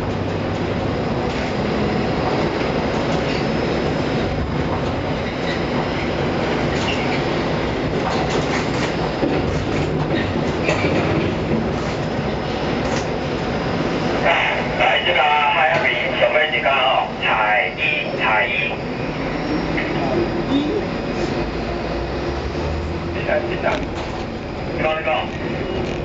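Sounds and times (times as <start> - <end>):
crane machinery rumble: 0.0 - 26.0.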